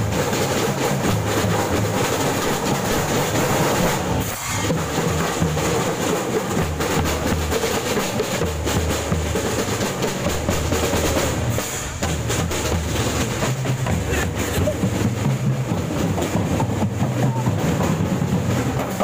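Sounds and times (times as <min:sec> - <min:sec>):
marching drum band: 0:00.0 - 0:19.0.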